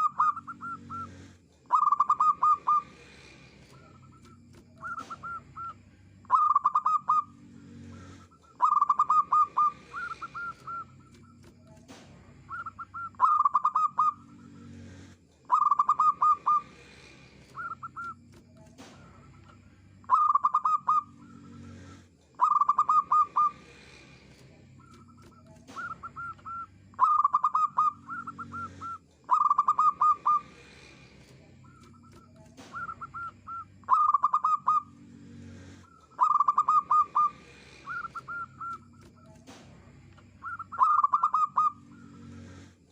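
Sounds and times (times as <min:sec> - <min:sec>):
dove cooing: 0:00.0 - 0:24.0, 0:24.8 - 0:31.0, 0:31.7 - 0:35.0, 0:35.6 - 0:39.6, 0:40.4 - 0:42.7.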